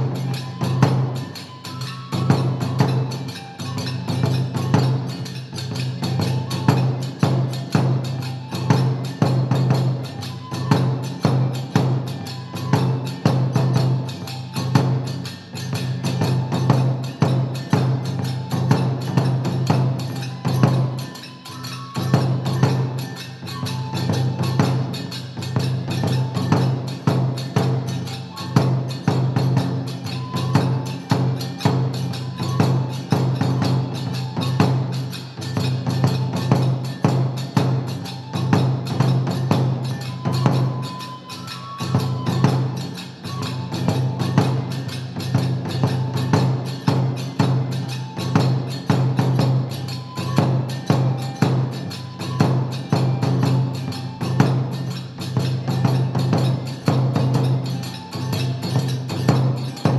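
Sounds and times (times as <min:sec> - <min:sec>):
hand cymbal clashes: 0:00.0 - 0:59.9
high flute phrases: 0:00.0 - 0:59.9
rapid drum strokes: 0:00.0 - 0:59.9.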